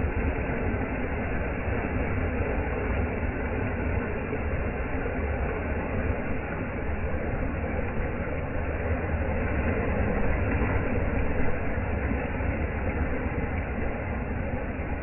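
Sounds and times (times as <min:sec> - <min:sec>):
beach surf rumbling wash: 0:00.0 - 0:15.0.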